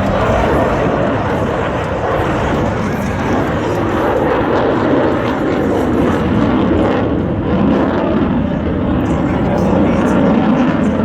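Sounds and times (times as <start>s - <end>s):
fighter jet flying past: 0.0s - 11.0s.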